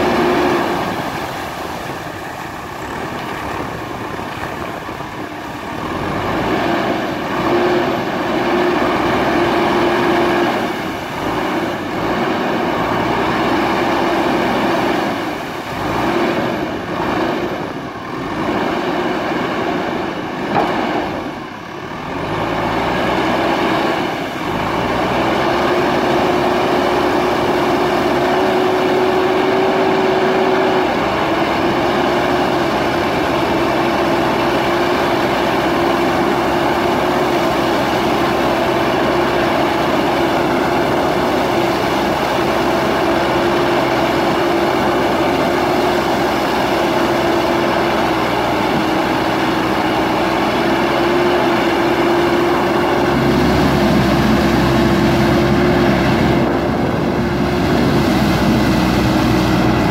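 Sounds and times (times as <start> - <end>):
diesel engine under load: 0.0 - 59.9
water splashing: 0.0 - 59.9.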